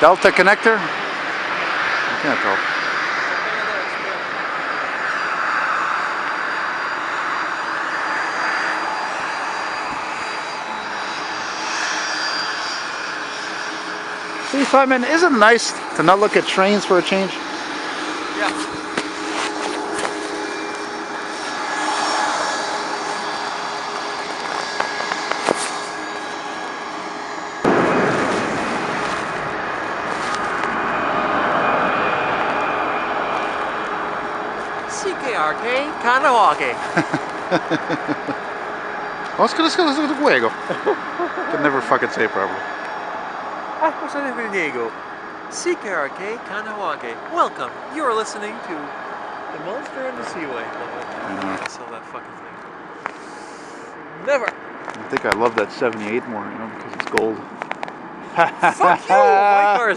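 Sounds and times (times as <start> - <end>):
jet engines passing overhead: 0.0 - 59.9
thin high engine whine: 0.0 - 59.9.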